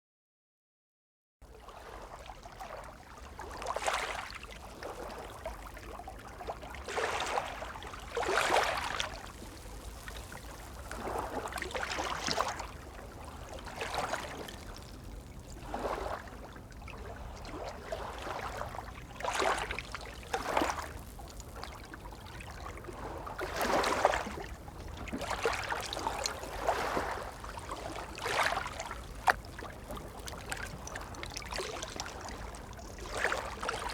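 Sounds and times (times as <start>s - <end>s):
small waves lapping: 1.5s - 33.9s.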